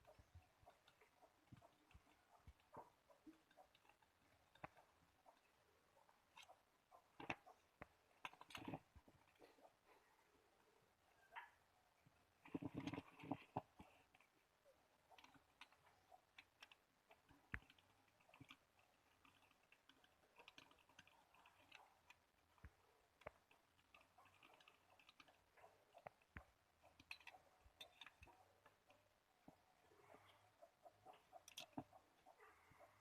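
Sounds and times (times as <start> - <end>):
faint clicks and light taps: 0.0 - 33.0.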